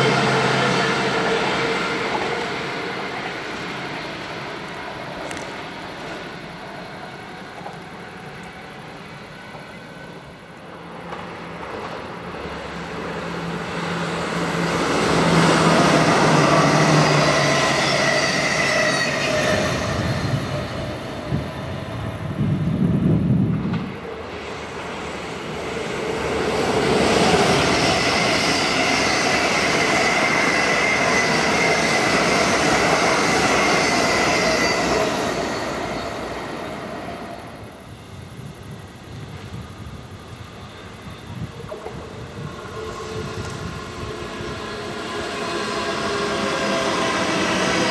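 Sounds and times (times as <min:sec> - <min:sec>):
train rail noise: 0:00.0 - 0:47.9.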